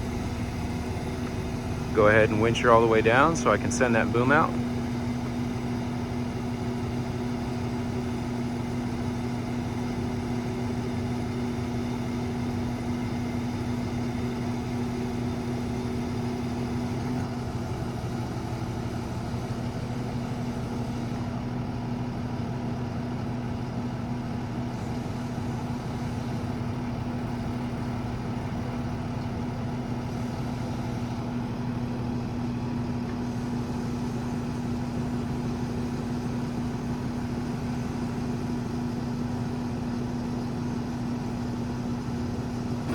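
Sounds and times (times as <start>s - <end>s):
truck diesel engine droning: 0.0s - 42.9s.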